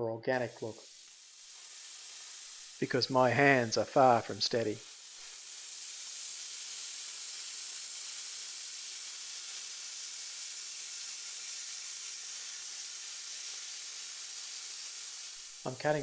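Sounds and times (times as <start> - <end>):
plasma cutter hissing: 0.4 - 16.0.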